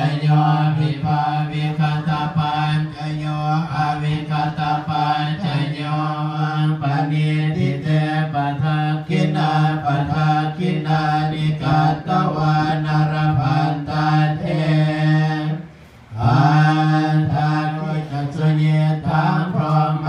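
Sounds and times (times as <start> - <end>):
monotone chanting: 0.0 - 20.0.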